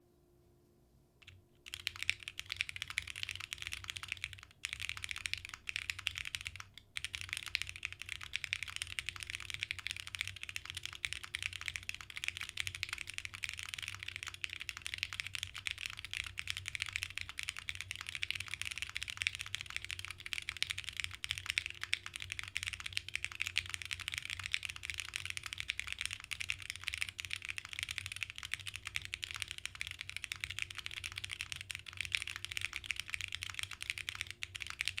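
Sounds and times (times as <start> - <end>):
mechanical keyboard typing: 1.2 - 35.0.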